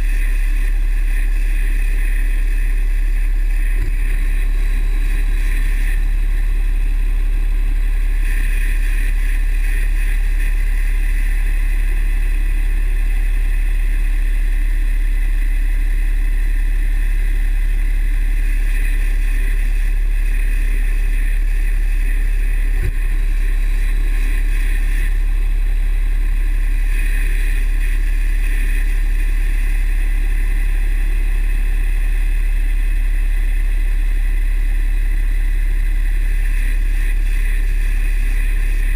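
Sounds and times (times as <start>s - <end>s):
diesel engine deep rumble: 0.0s - 38.9s.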